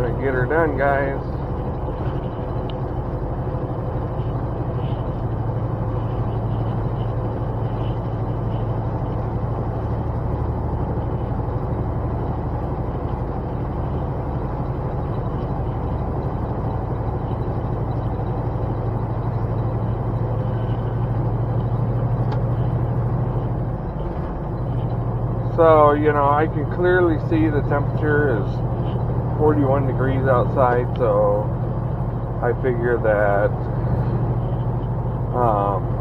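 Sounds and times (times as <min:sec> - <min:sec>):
diesel engine low hum: 0:00.0 - 0:36.0
road noise: 0:00.0 - 0:36.0.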